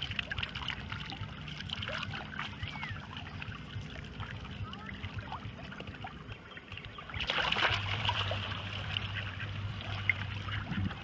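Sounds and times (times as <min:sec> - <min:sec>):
water lapping and sloshing: 0:00.0 - 0:11.0
water splashing rush: 0:00.0 - 0:11.0.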